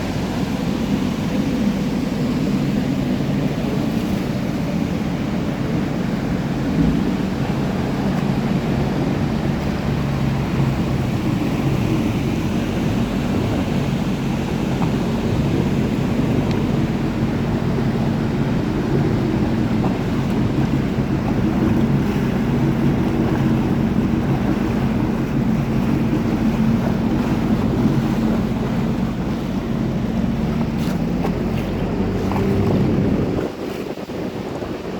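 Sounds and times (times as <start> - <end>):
boat motor humming: 0.0 - 34.9
rushing water: 0.0 - 34.9
wind on microphone: 0.0 - 34.9.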